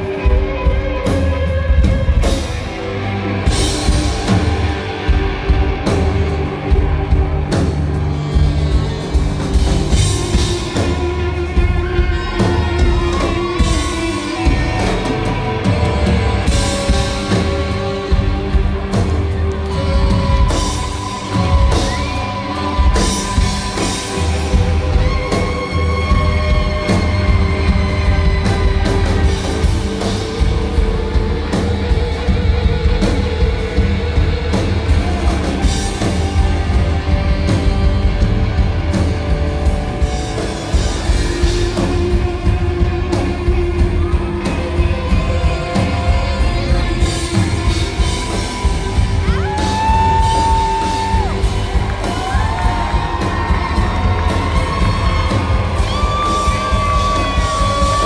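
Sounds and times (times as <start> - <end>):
live rock band playing: 0.0 - 58.0
saxophone long sliding notes: 0.0 - 58.0.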